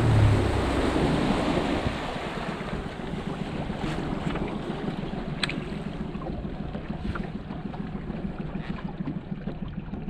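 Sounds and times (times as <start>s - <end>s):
boat motor running: 0.0s - 10.0s
wind rumbling on microphone: 0.0s - 10.0s.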